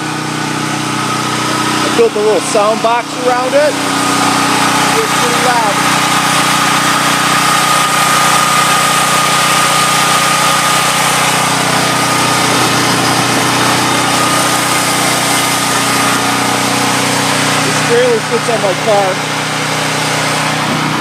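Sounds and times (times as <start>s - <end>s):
generator engine drone: 0.0s - 21.0s.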